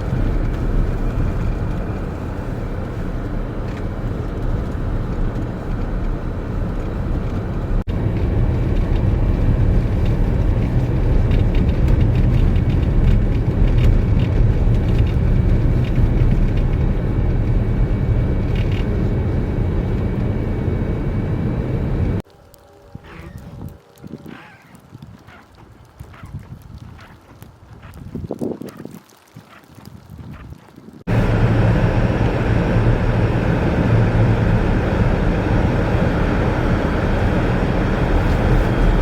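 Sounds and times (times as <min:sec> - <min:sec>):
vehicle road and engine rumble: 0:00.0 - 0:29.3, 0:29.9 - 0:39.0.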